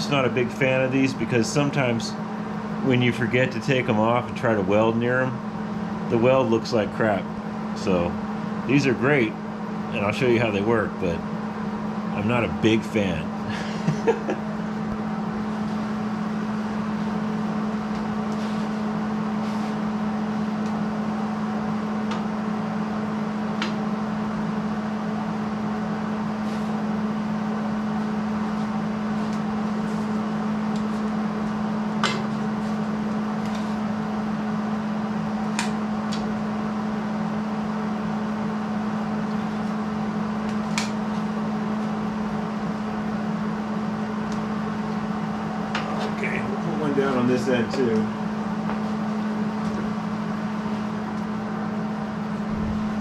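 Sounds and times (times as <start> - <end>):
electrical hum and buzz: 0.0 - 53.0.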